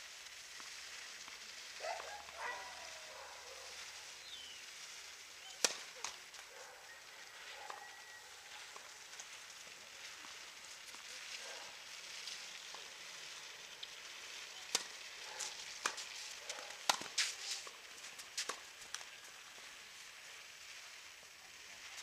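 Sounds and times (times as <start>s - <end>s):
outdoor hiss: 0.0s - 22.0s.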